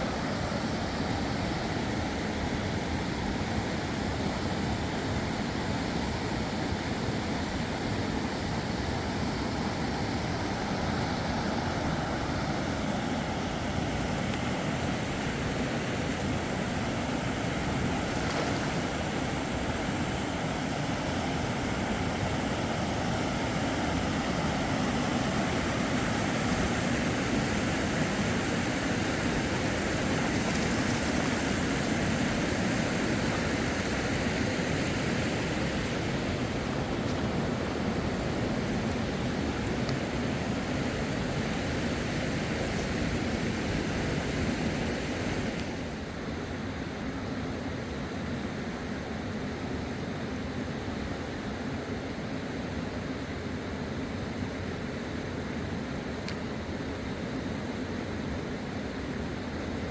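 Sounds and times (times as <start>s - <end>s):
river water rushing: 0.0s - 48.6s.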